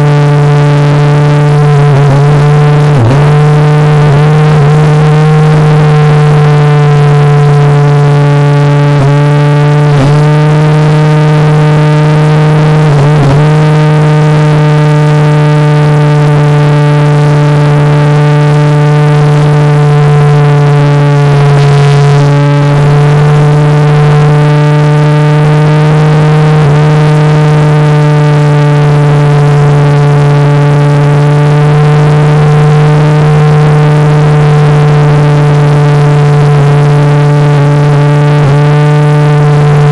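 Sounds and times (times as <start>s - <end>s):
model airplane motor droning: 0.0s - 39.9s.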